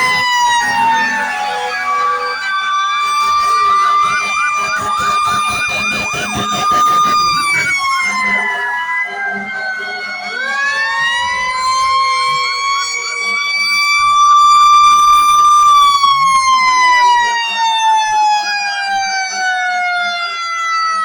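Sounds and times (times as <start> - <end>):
fire truck siren wailing: 0.0 - 21.0
siren yelping: 0.0 - 21.0.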